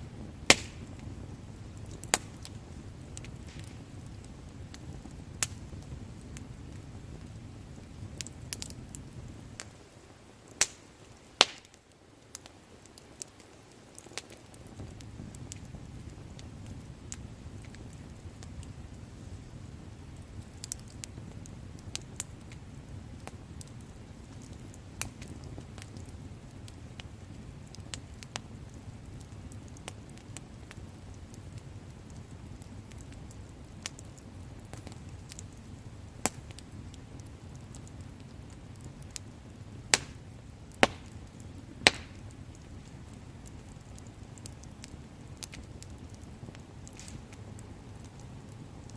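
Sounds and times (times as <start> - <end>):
sharp fire pops: 0.0 - 48.9
wood campfire crackling: 0.0 - 48.9.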